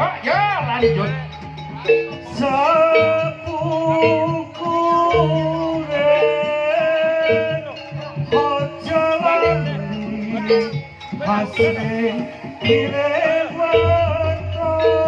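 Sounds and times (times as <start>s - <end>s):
low bass pattern: 0.0s - 15.0s.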